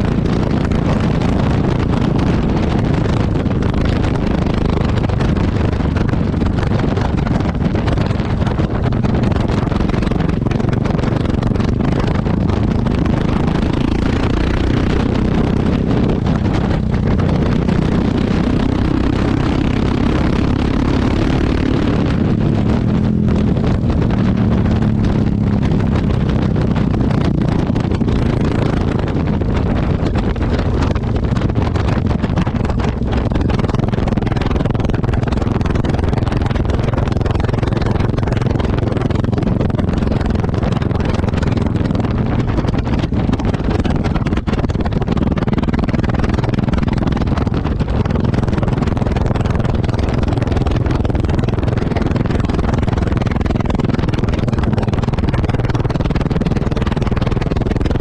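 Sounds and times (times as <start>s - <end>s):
motorcycle engine exhaust running: 0.0s - 58.0s.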